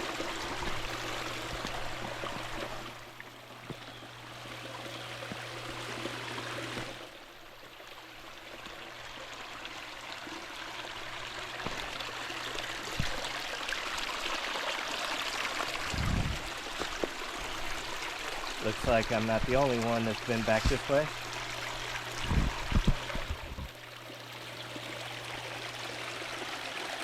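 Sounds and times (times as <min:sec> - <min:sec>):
creek running over rocks: 0:00.0 - 0:27.0.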